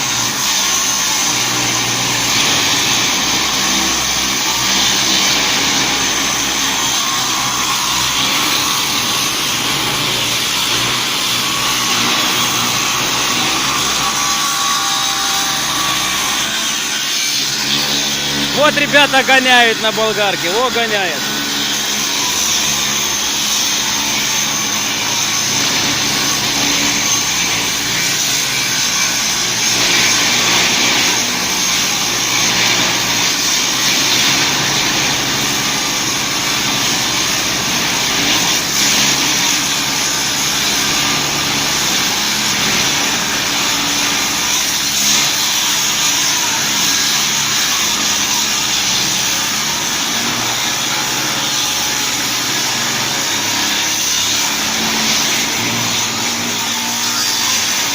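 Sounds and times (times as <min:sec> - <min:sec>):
angle grinder motor whining: 0:00.0 - 0:57.9.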